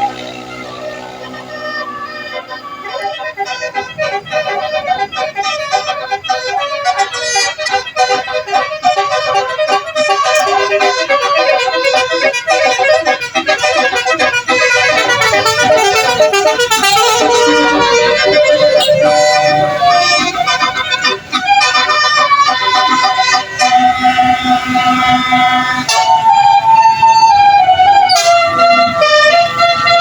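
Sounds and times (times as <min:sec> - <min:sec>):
multi-tone horns playing melody: 0:00.0 - 0:30.0.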